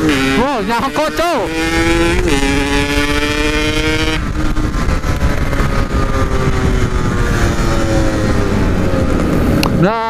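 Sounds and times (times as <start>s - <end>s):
wind rumble on microphone: 0.0s - 9.8s
two-stroke motorcycle engine: 0.0s - 10.0s.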